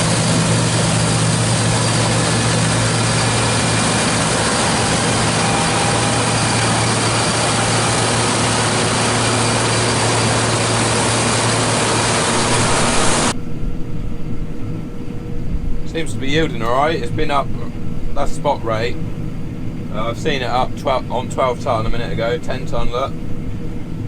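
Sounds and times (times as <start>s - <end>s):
combine harvester drone: 0.0s - 24.0s.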